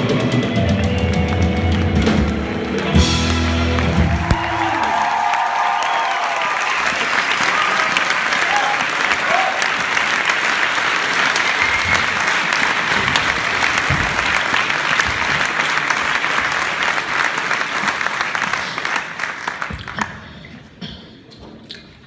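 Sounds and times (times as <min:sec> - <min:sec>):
audience applauding: 0:00.6 - 0:20.3.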